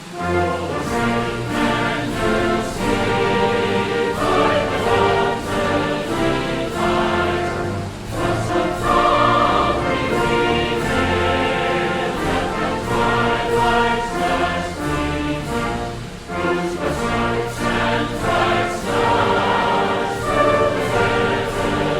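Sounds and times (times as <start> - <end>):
orchestral music with choir: 0.0 - 21.9.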